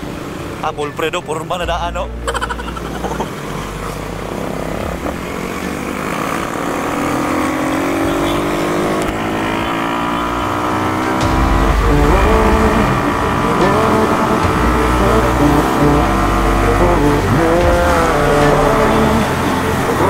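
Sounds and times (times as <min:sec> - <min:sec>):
motorcycle engine accelerating: 0:02.3 - 0:20.0.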